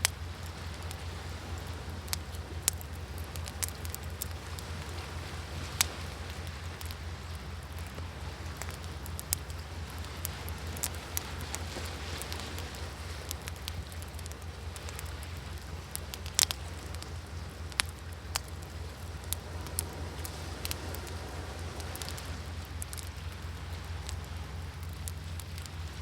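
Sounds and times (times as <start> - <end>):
sea waves rumbling: 0.0 - 26.0
wood fire crackling: 0.0 - 26.0.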